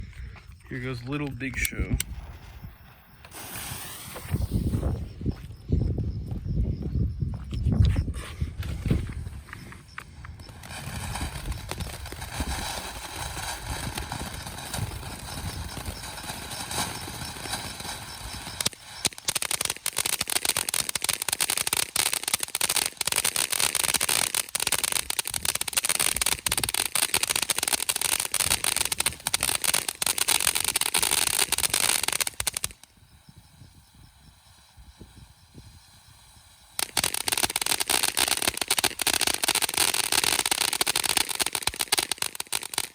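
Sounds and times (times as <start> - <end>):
firework fast crackle: 1.2 - 5.4, 8.5 - 42.9
firework fountain hissing: 2.0 - 5.2, 10.2 - 42.9.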